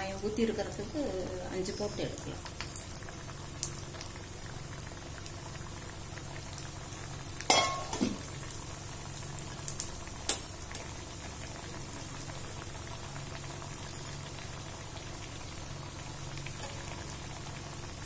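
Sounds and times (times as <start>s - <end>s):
oil bubbling and frying: 0.0s - 18.0s.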